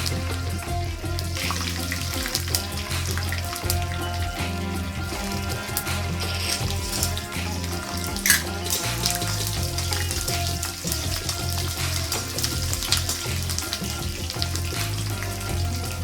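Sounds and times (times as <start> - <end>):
background music with bass line: 0.0 - 16.0.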